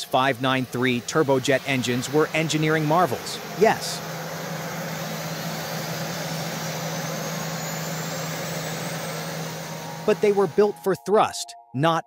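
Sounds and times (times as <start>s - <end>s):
jet engine running: 0.0s - 11.0s
faint high whine rising in pitch: 0.0s - 11.4s.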